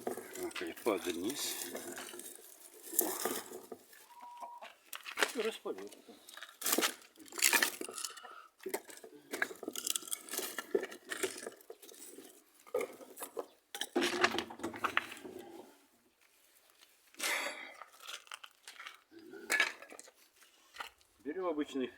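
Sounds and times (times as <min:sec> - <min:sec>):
dry sticks clattering and crackling: 0:00.0 - 0:15.5, 0:16.2 - 0:21.2.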